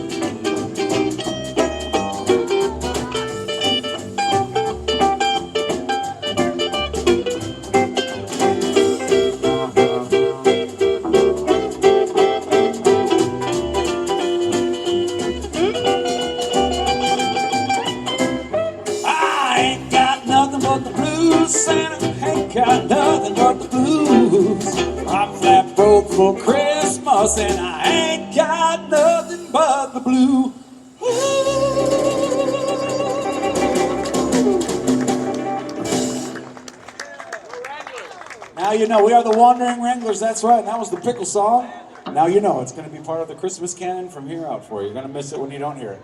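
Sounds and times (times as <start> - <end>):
acoustic string band playing: 0.0 - 36.9.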